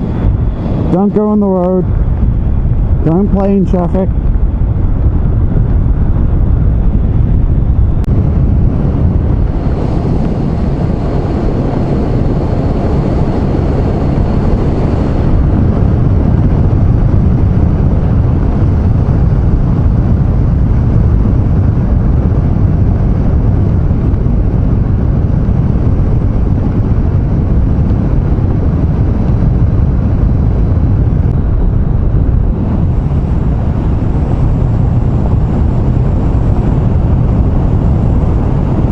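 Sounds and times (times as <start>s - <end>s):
motorcycle engine running: 0.0s - 38.9s
wind and road rush on microphone: 0.0s - 38.9s.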